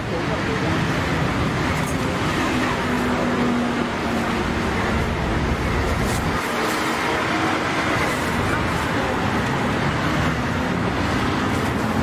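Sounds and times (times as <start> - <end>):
busy street market din: 0.0 - 12.0.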